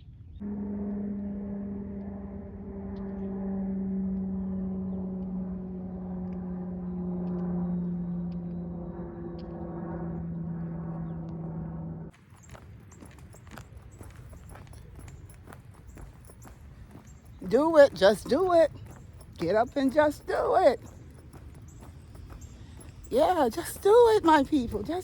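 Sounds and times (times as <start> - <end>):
engine drone: 0.4 - 25.0.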